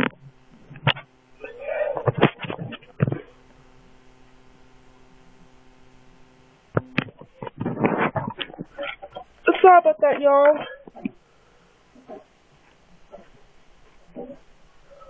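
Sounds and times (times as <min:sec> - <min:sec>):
faint electrical hum: 0:00.0 - 0:15.0
muffled irregular sounds: 0:00.0 - 0:15.0.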